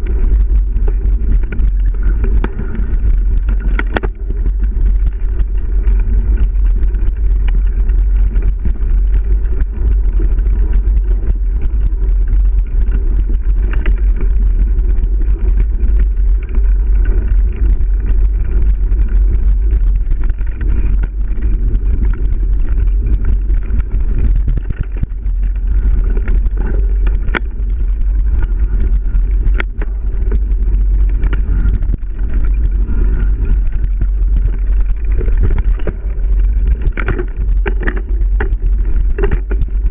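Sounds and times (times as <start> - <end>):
bike rattle: 0.0 - 39.9
trail bumps: 0.0 - 39.9
wind buffeting: 0.0 - 39.9.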